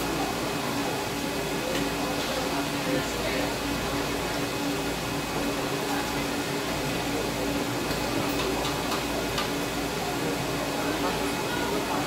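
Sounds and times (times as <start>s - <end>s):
market hall hum: 0.0s - 12.0s.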